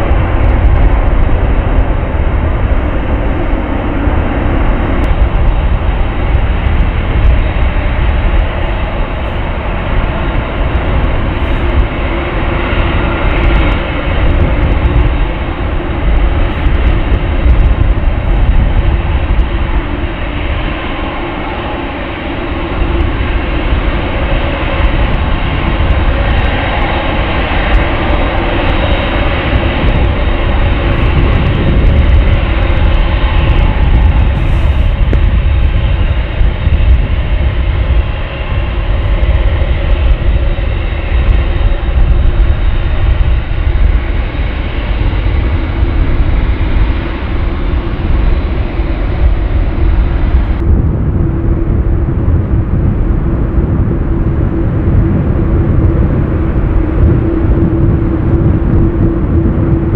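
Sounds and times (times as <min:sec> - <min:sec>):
jet engines at taxi power: 0:00.0 - 0:59.9.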